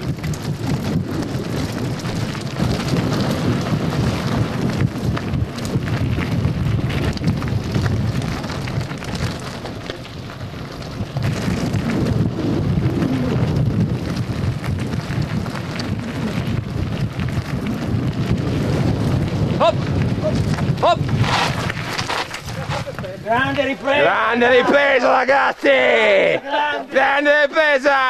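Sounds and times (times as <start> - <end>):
bike knocks and rattles: 0.0 - 23.8
wind on microphone: 0.0 - 24.6
tyres rumbling on gravel: 0.0 - 27.9.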